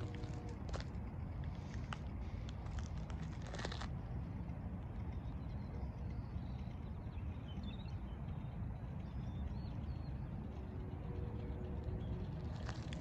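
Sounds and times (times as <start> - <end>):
outdoor rumble: 0.0 - 13.0.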